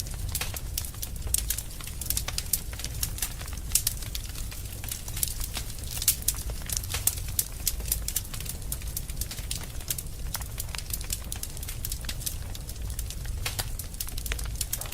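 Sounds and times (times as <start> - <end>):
low rumble of flames: 0.0 - 14.9
wood fire crackling and popping: 0.0 - 14.9.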